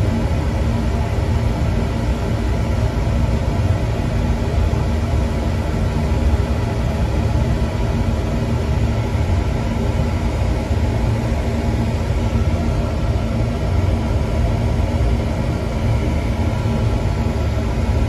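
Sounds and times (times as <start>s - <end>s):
oil burner rumbling: 0.0s - 18.0s.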